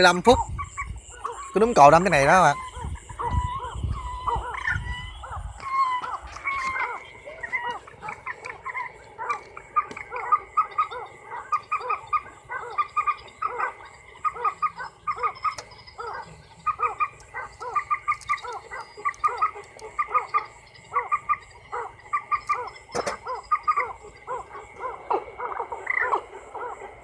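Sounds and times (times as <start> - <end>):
frogs croaking: 0.0 - 27.0
high insect trill: 0.0 - 27.0.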